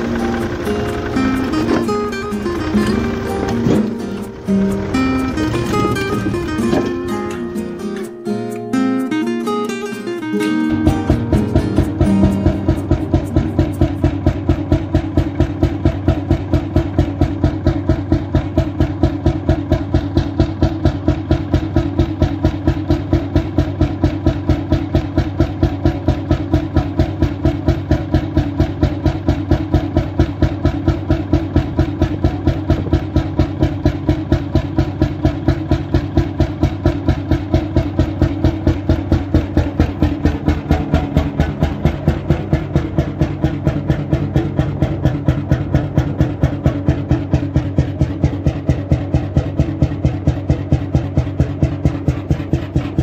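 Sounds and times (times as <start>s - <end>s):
oil engine running: 0.0s - 53.0s.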